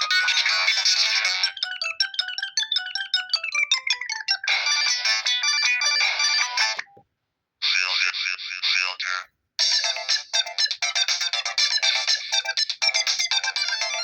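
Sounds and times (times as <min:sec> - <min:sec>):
electronic phone ringtone: 0:00.0 - 0:07.0, 0:09.6 - 0:14.0.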